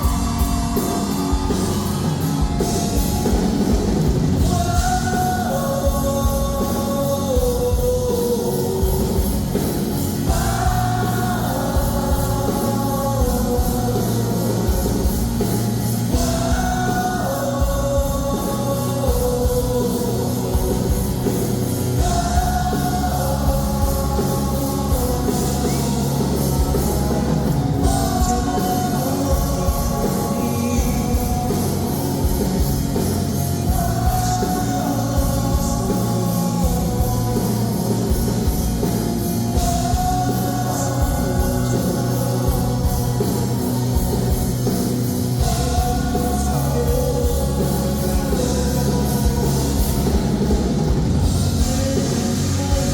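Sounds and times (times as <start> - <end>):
live pop-rock band: 0.0 - 52.9
man singing lead vocal: 0.0 - 52.9.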